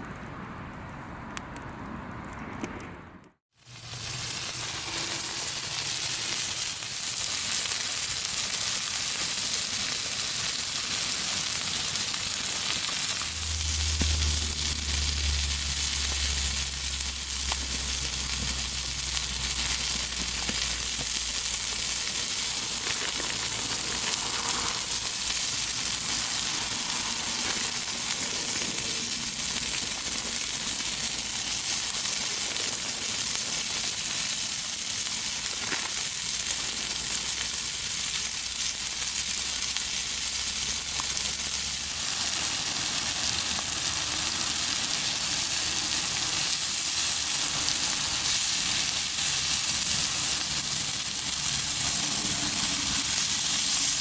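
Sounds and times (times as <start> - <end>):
steady sizzling hiss: 3.6 - 54.0.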